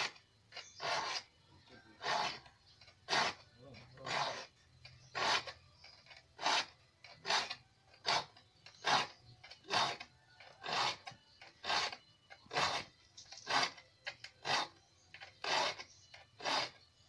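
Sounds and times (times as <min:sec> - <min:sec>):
file rasping on saw teeth: 0:00.0 - 0:17.0.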